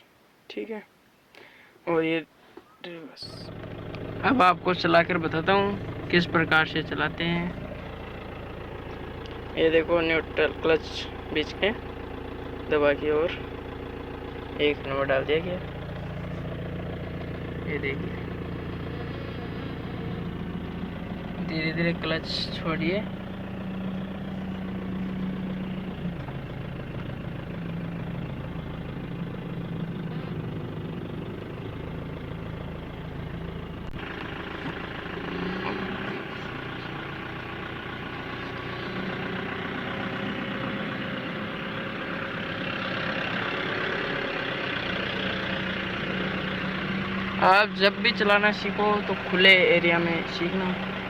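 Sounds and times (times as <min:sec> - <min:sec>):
diesel engine pulling away: 0:03.2 - 0:51.0.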